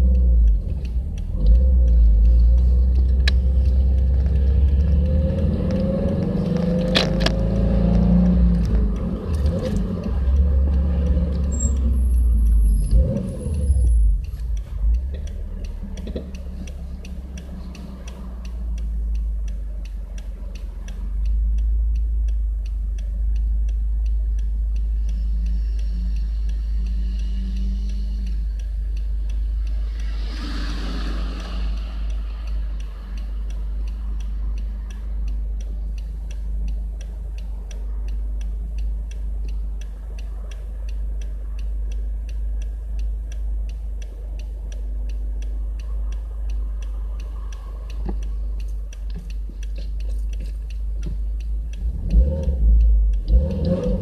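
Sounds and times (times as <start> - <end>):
car engine droning: 0.0 - 54.0
regular ticking: 0.0 - 54.0.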